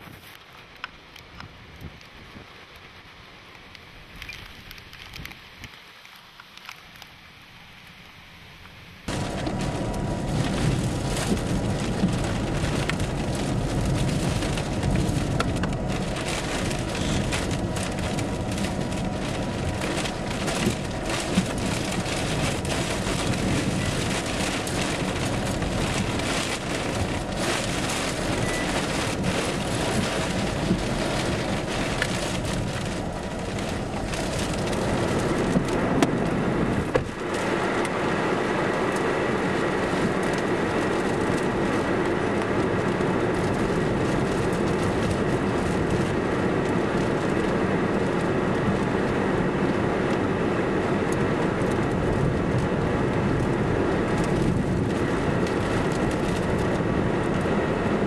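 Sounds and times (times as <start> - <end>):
rain and storm wind: 0.0 - 58.0
raindrops ticking on vehicle: 0.4 - 7.2, 7.8 - 58.0.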